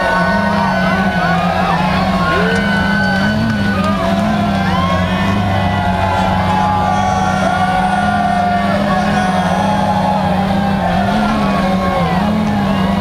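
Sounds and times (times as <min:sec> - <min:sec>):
crowd cheering and shouting: 0:00.0 - 0:13.0
drone propellers humming: 0:00.0 - 0:13.0.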